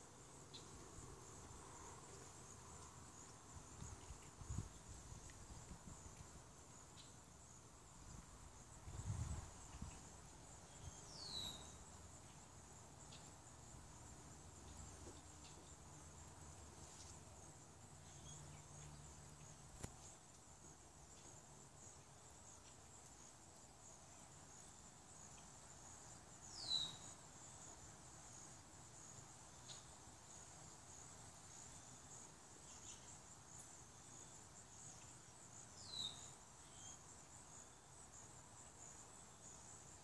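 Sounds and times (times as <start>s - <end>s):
insect chorus trilling: 0.0s - 40.0s.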